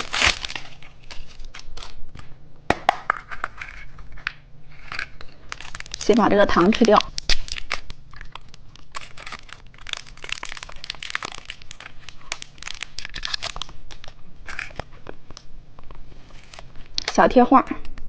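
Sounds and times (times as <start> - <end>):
plastic wrapper crinkling and tearing: 0.0 - 2.4, 3.2 - 17.2.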